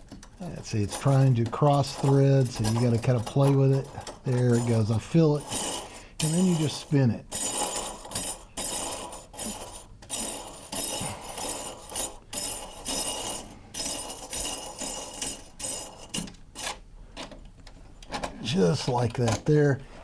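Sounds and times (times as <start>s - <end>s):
metal nut rattling and clinking: 0.0s - 16.8s.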